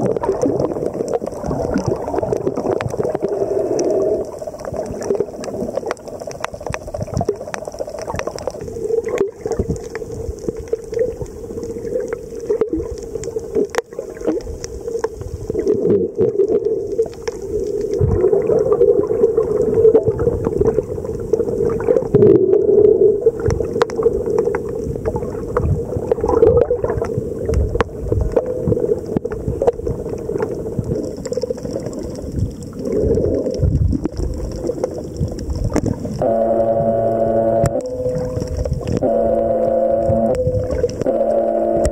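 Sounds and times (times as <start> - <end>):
underwater drone: 0.0 - 41.9.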